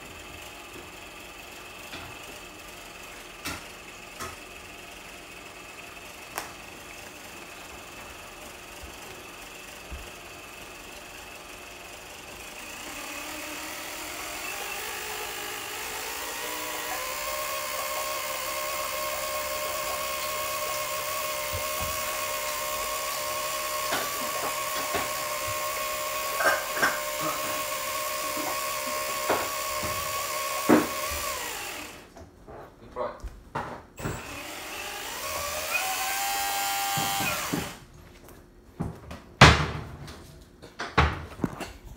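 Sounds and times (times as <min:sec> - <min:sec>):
electric motor whine: 0:00.0 - 0:32.1, 0:34.0 - 0:37.8.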